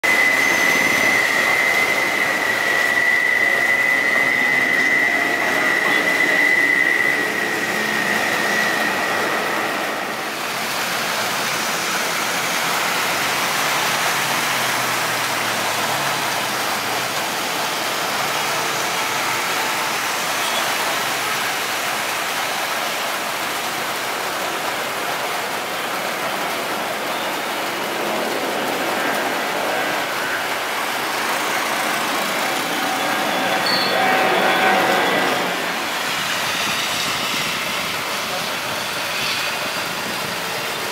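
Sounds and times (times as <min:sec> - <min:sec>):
jet engine roar: 0:00.0 - 0:40.9
jet engines high whine: 0:00.0 - 0:40.9.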